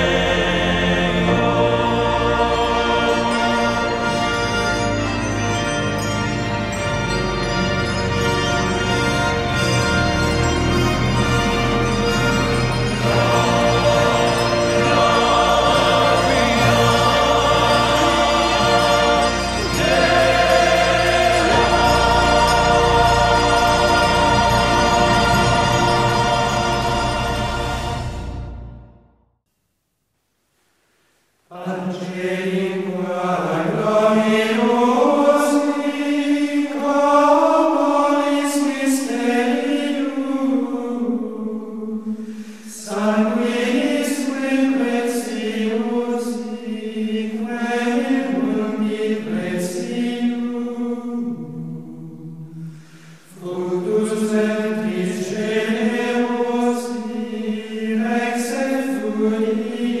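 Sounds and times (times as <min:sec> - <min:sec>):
slow choral singing: 0:00.0 - 0:05.6, 0:09.3 - 0:28.9, 0:31.5 - 1:00.0.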